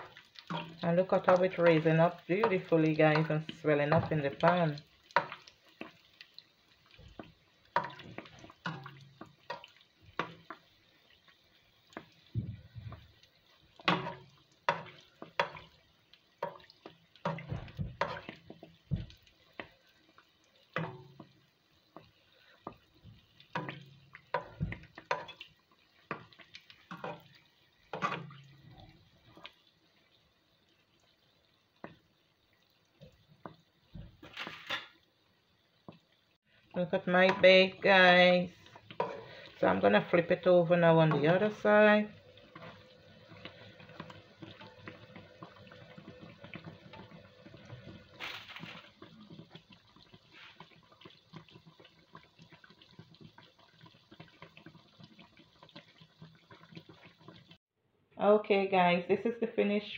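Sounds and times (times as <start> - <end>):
spatula splashing in oil: 0.0 - 29.8, 36.4 - 57.5
dough sizzling in hot oil: 0.0 - 57.7.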